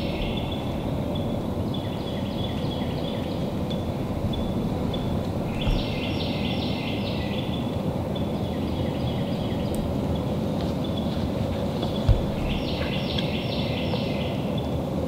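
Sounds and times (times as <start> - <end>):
songbird singing: 0.0 - 14.9
low background rumble: 0.0 - 15.0.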